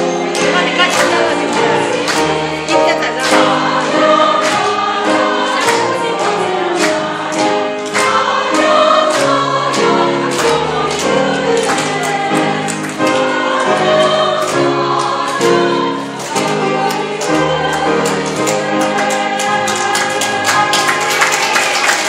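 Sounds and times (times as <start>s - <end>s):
piano accompaniment: 0.0s - 22.0s
women's choir singing in harmony: 0.0s - 22.0s.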